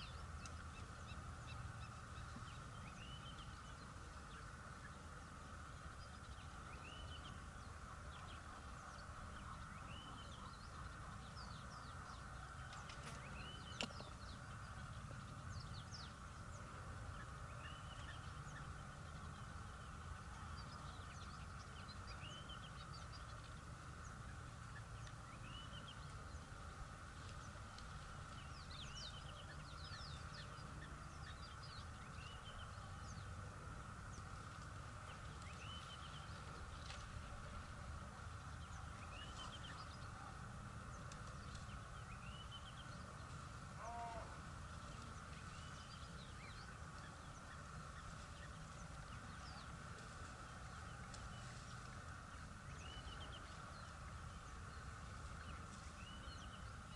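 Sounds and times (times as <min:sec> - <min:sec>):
steady background hum: 0:00.0 - 0:56.9.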